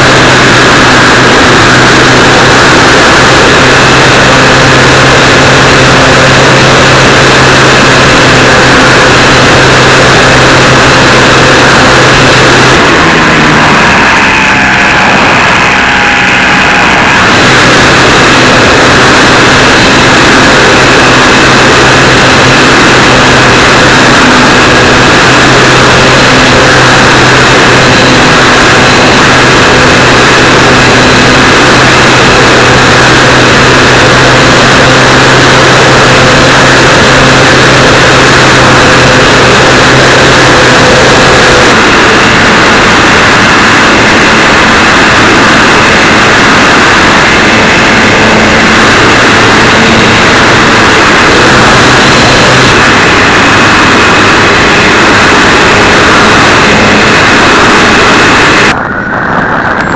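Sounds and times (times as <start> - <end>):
model plane motor and propeller: 0.0 - 59.9
rushing air: 0.0 - 59.9.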